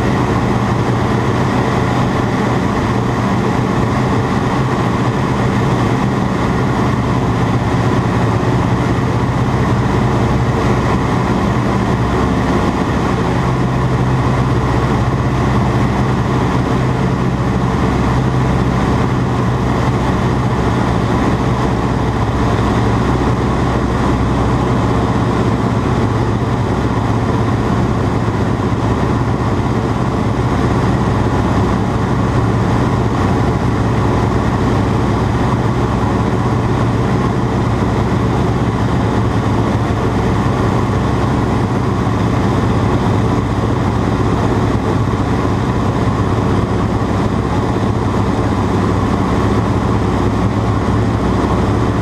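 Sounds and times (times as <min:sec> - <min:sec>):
biplane engine running steadily: 0:00.0 - 0:52.0.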